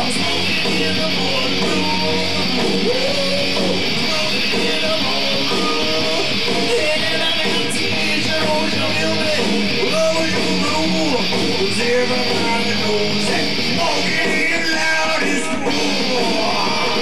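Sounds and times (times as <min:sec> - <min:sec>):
electric guitars playing rock: 0:00.0 - 0:17.0.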